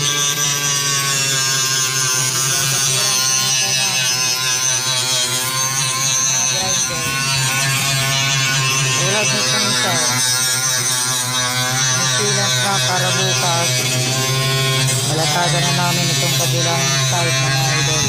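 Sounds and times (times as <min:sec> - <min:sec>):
power tool motor whining: 0:00.0 - 0:18.0.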